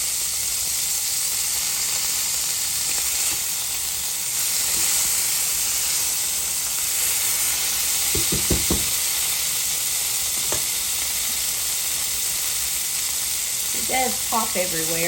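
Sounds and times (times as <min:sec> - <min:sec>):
steaks sizzling in skillet: 0:00.0 - 0:15.0.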